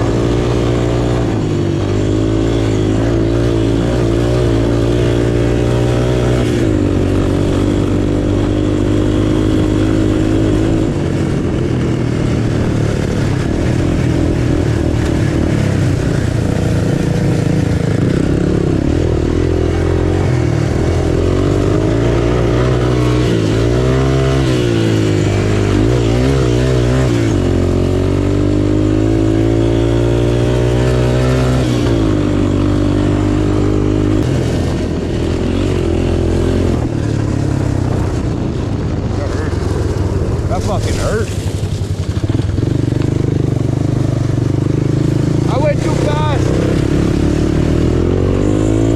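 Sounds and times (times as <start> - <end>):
single-cylinder motorcycle engine revving: 0.0 - 48.9.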